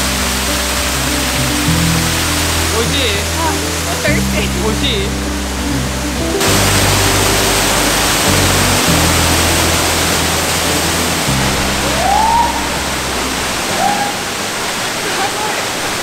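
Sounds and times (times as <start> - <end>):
background music with bass: 0.0 - 14.6
waterfall rushing: 0.0 - 16.0.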